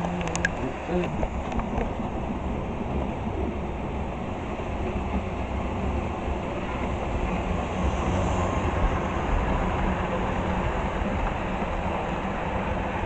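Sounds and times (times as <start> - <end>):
model train rumbling: 0.0 - 13.0.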